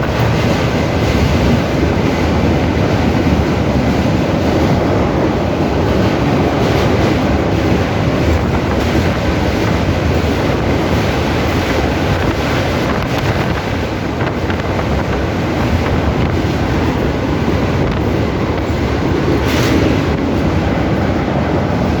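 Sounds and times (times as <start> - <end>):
train rumbling on rails: 0.0 - 22.0
wind noise on microphone: 0.0 - 22.0.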